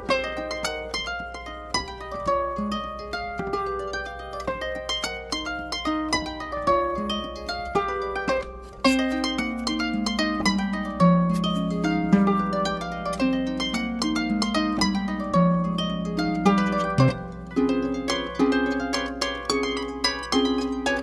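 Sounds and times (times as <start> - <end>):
harp music: 0.0 - 21.0.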